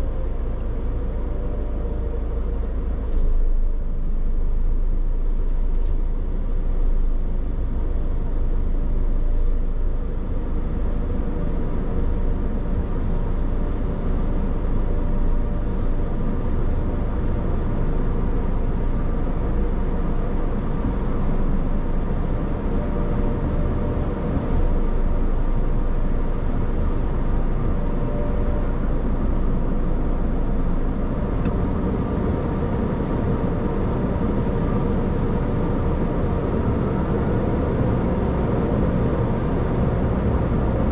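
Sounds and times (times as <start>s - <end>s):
car rumble: 0.0s - 40.9s.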